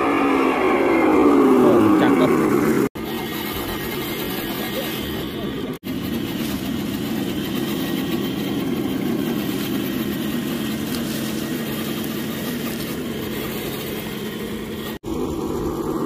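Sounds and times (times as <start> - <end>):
toy car electric motor running: 1.6 - 16.0.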